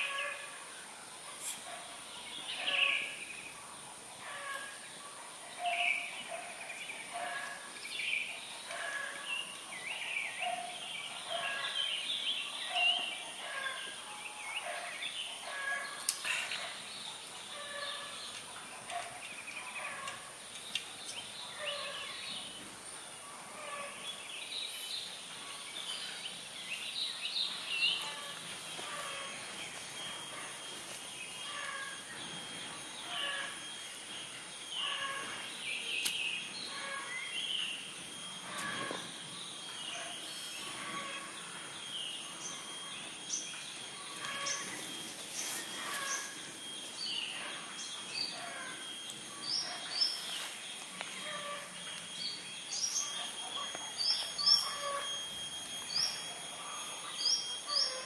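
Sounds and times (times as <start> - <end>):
high-pitched hiss: 0.0 - 58.0
birds chirping: 5.6 - 58.0.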